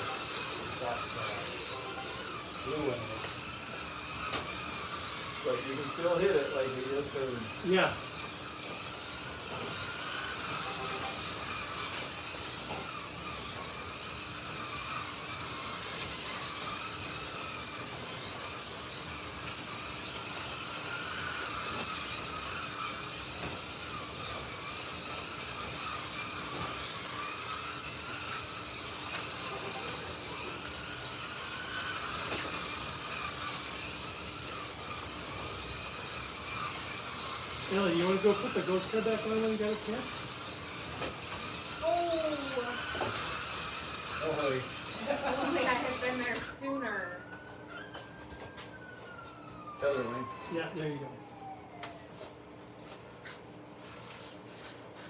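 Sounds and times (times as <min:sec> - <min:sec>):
slot car motors whining: 0:00.0 - 0:55.0.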